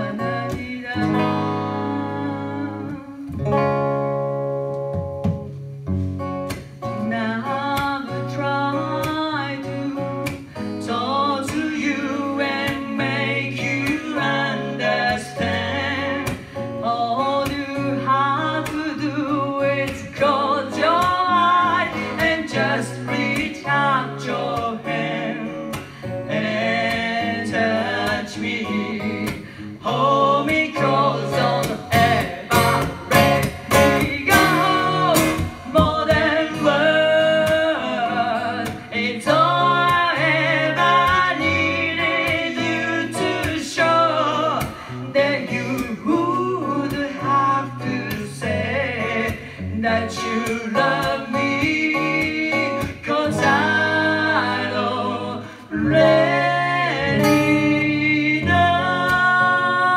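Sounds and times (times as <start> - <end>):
woman singing into a microphone: 0.0 - 3.7, 6.5 - 59.9
strummed acoustic guitar: 0.0 - 59.9.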